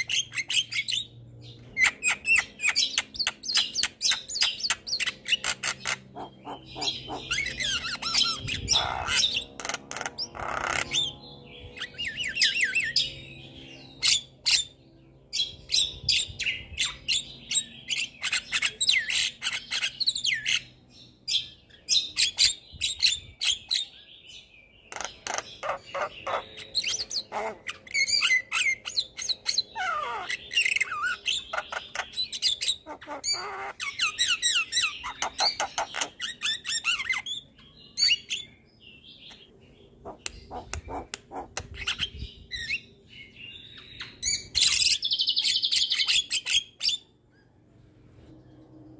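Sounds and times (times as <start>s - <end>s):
myna bird singing: 0.0s - 48.9s.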